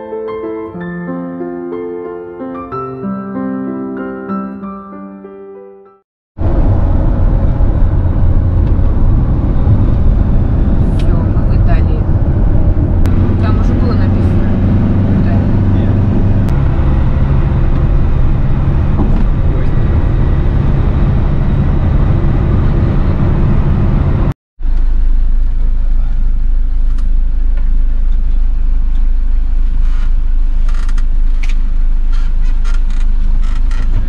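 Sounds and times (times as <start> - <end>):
motorhome engine and road drone: 6.4 - 34.0.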